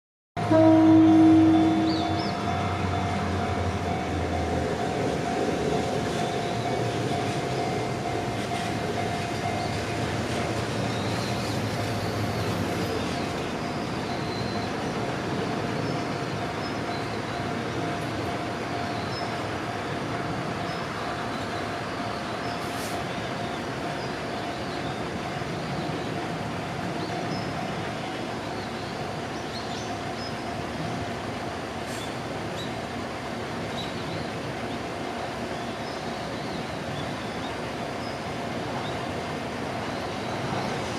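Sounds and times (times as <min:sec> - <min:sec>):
train wheels rumbling on rails: 0:00.4 - 0:40.9.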